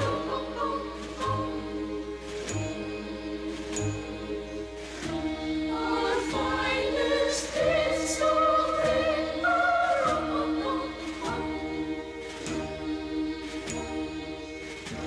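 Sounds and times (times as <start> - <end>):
choir singing held notes: 0.0 - 15.0
instrumental accompaniment: 0.0 - 15.0.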